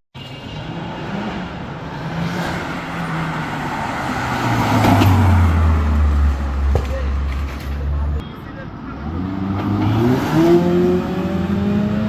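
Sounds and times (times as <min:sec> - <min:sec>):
street noise: 0:00.1 - 0:12.0.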